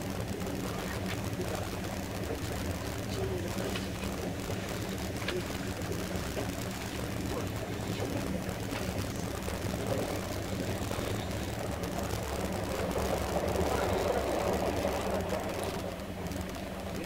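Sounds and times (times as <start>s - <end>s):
train cabin rumble and hum: 0.0s - 17.0s.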